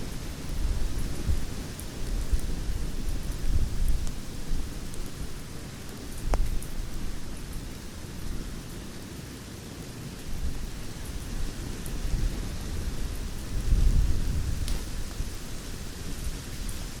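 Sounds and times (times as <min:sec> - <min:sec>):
campfire flames roaring: 0:00.0 - 0:17.0
fire crackles and pops: 0:00.0 - 0:17.0.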